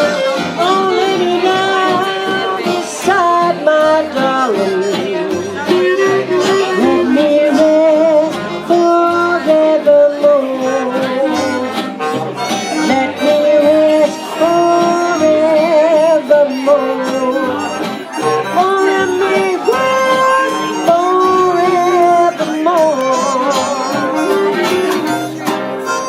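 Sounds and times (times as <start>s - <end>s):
fiddle or clarinet melody: 0.0s - 26.0s
guitar: 0.0s - 26.0s
plodding bass line: 0.0s - 26.0s.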